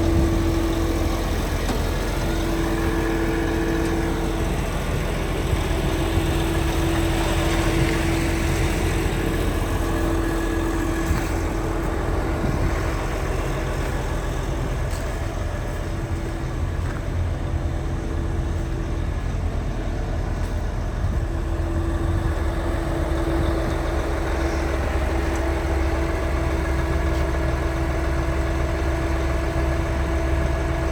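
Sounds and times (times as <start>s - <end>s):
bulldozer diesel engine running: 0.0s - 30.9s.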